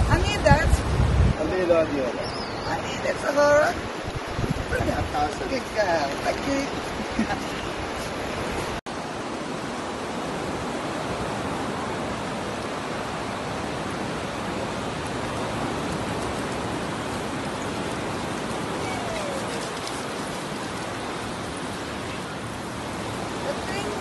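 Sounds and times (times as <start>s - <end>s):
surf rushing: 0.0s - 24.0s
wind: 0.0s - 24.0s.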